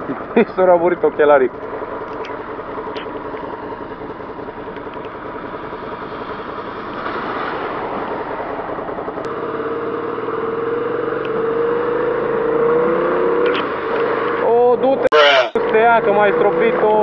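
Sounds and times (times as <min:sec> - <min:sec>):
motorcycle engine: 0:00.0 - 0:17.0
wet road noise: 0:00.0 - 0:17.0.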